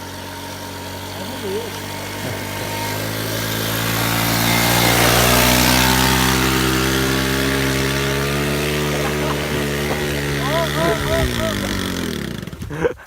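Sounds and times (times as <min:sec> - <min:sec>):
motorbike engine high-revving drone: 0:00.0 - 0:13.0.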